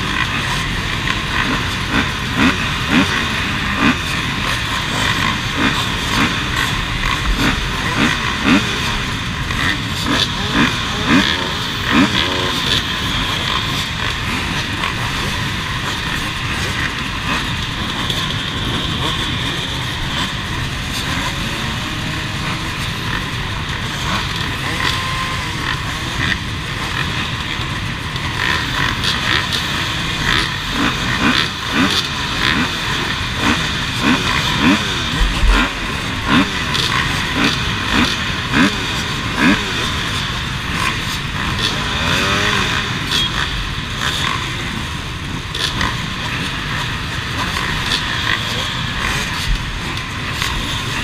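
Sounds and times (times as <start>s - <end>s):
dirt bike engines idling: 0.0s - 51.0s
engine revving: 0.0s - 51.0s.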